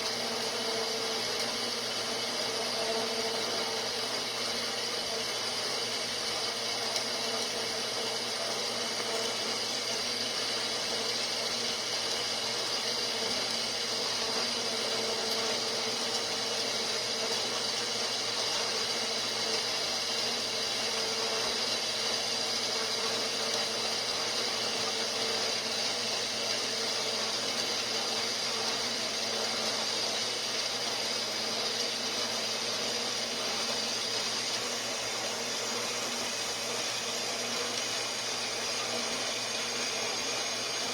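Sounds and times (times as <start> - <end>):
small motor humming and whining: 0.0 - 40.9.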